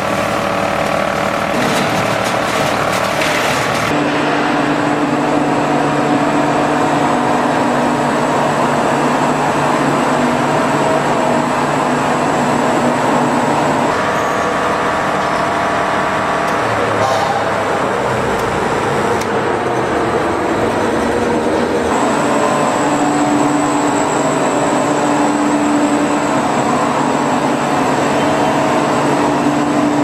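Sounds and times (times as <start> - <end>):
loud machinery running: 0.0 - 30.0.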